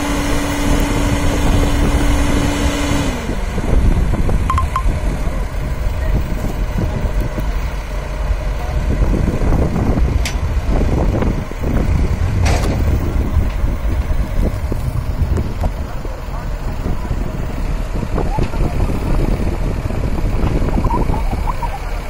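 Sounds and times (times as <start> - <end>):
diesel engines rumbling: 0.0 - 22.0.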